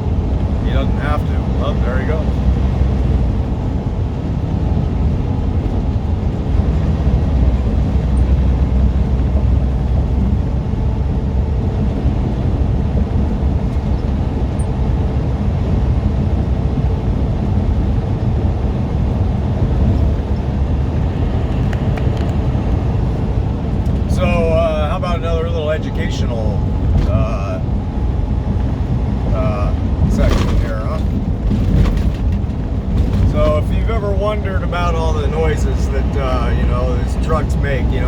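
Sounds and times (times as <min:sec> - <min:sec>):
truck diesel engine droning: 0:00.0 - 0:38.0
tyre and road noise: 0:00.0 - 0:38.0.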